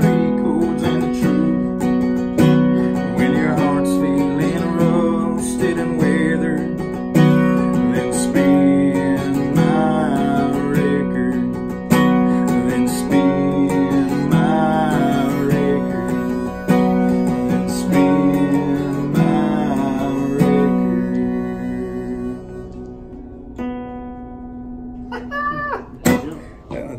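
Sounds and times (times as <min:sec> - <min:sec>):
harmonica melody: 0:00.0 - 0:24.4
acoustic guitars strummed: 0:00.0 - 0:26.9.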